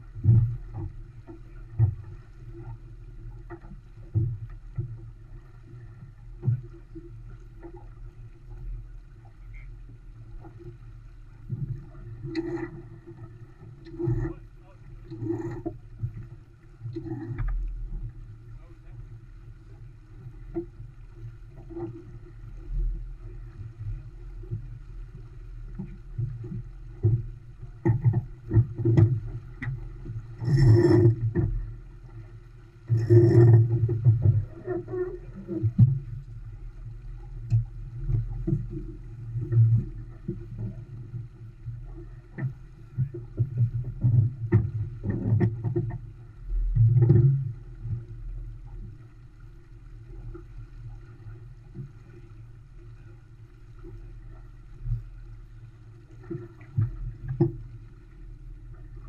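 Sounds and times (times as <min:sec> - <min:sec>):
water rushing along hull: 0:00.0 - 0:59.0.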